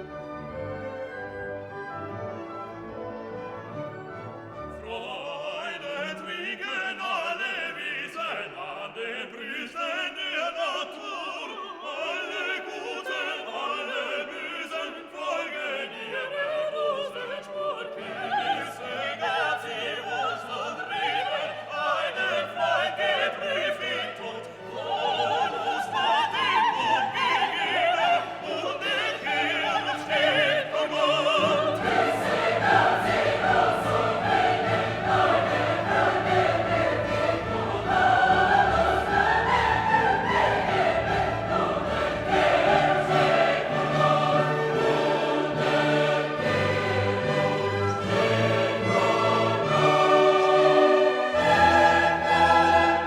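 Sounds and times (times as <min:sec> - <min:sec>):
operatic singing with orchestra: 0:00.0 - 0:53.0.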